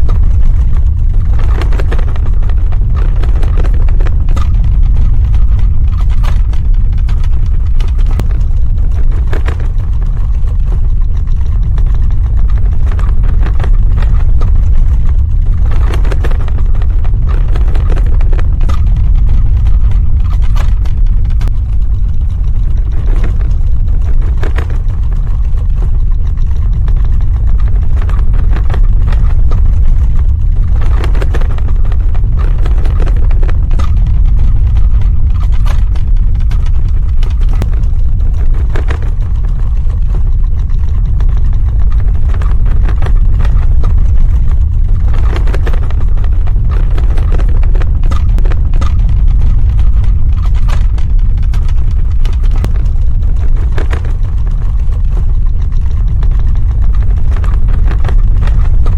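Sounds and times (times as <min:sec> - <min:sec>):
crackling and clattering: 0:00.0 - 0:58.9
earthquake rumble: 0:00.0 - 0:58.9.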